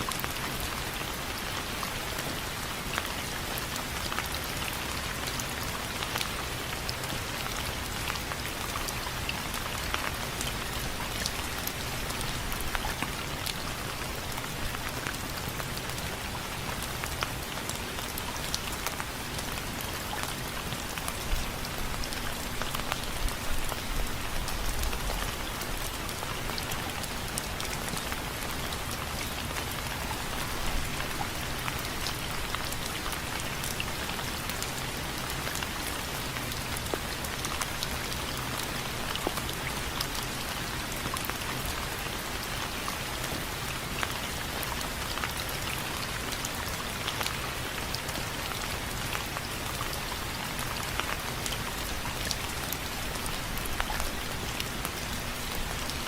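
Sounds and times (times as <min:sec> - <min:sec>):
rain drops on window frames: 0:00.0 - 0:56.0.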